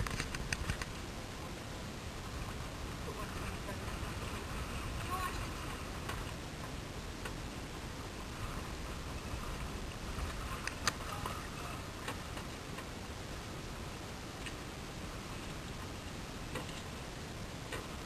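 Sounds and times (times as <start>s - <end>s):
low background rush: 0.0s - 18.0s.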